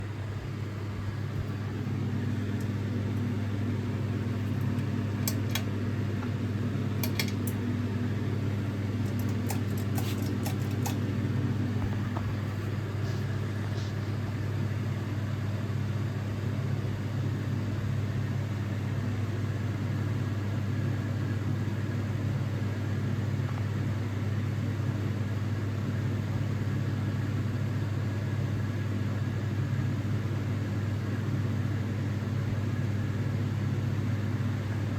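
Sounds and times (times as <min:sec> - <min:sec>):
ceiling fan motor humming: 0:00.0 - 0:34.9.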